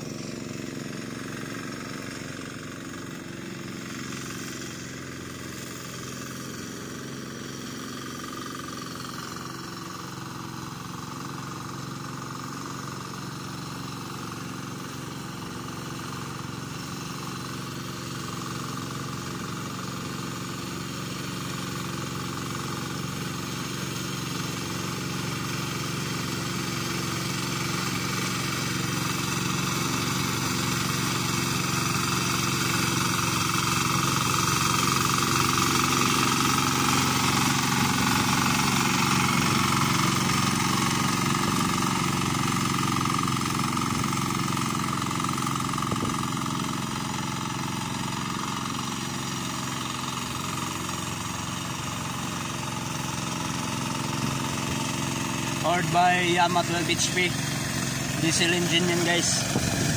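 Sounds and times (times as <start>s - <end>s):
diesel tiller engine running: 0.0s - 59.9s.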